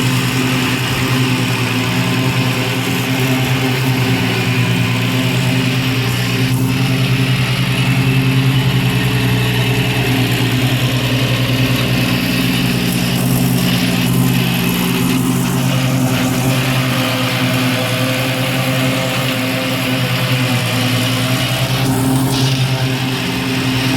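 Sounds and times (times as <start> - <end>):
mower whirring: 0.0 - 23.9
tractor engine running: 0.0 - 23.9.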